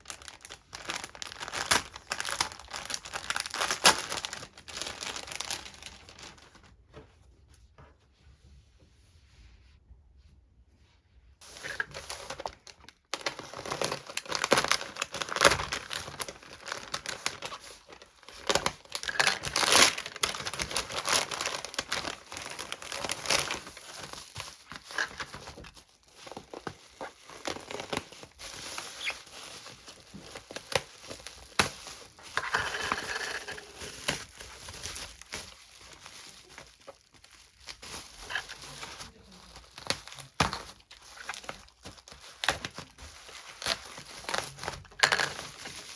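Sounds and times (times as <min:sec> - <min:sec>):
packaging tearing: 0:00.0 - 0:06.5, 0:11.4 - 0:45.9
packaging crinkling and rustling: 0:00.0 - 0:07.3, 0:11.4 - 0:45.9.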